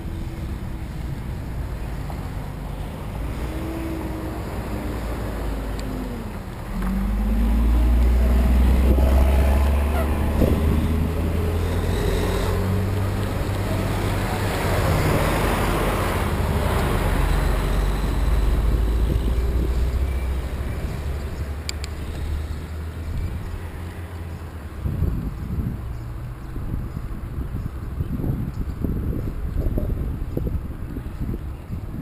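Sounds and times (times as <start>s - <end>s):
wind buffeting microphone: 0.0s - 23.6s, 24.7s - 32.0s
passing vehicle tyre noise: 0.0s - 32.0s
road noise: 0.0s - 32.0s.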